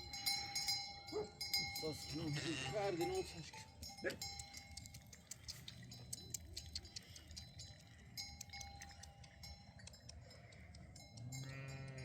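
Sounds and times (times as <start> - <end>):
livestock bells clinking: 0.0 - 12.0.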